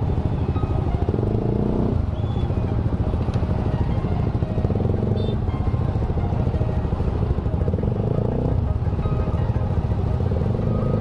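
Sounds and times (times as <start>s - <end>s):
motorcycle engine rumbling: 0.0s - 11.0s
other traffic engines: 0.0s - 11.0s.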